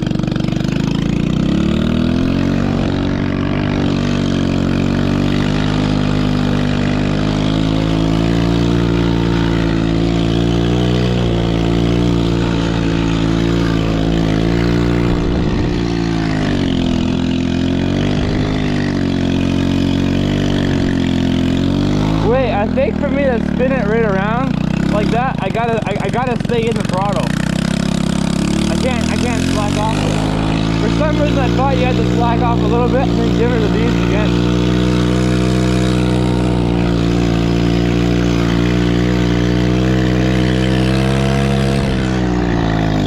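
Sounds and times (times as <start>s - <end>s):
small engine revving high: 0.0s - 43.0s.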